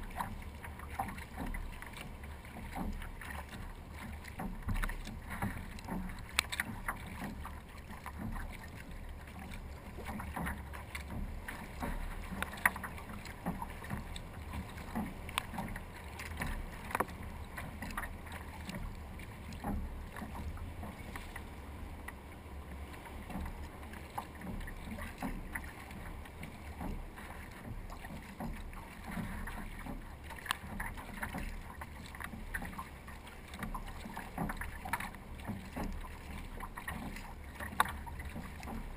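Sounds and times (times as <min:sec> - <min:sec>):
low steady rumble: 0:00.0 - 0:38.9
small splashes and drips: 0:00.0 - 0:38.9
water lapping against kayak hull: 0:00.0 - 0:38.9.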